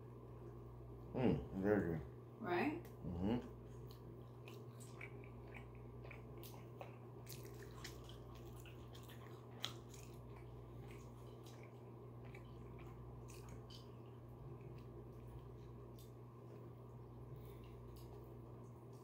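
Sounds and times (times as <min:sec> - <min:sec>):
person chewing sandwich: 0:02.9 - 0:19.0.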